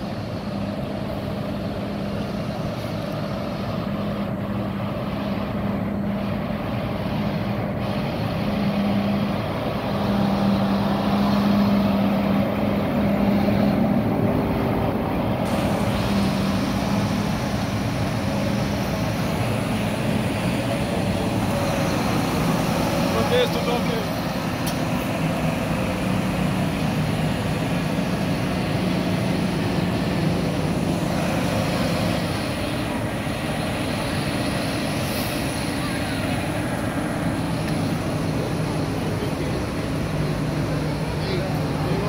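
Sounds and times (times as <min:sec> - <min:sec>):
diesel tractor engines humming: 0:00.0 - 0:42.0.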